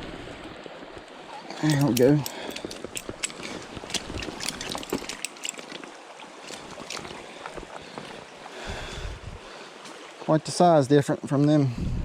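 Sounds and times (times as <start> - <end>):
creek water running: 0.0 - 11.8.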